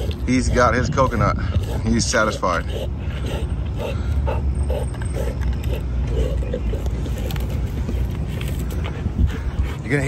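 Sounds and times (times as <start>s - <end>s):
dog gnawing coconut husk: 0.0s - 10.0s.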